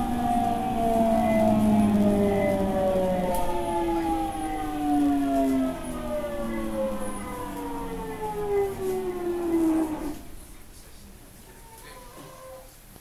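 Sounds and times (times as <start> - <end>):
train running gear rumble: 0.0 - 11.4
train traction motor whine: 0.0 - 11.4.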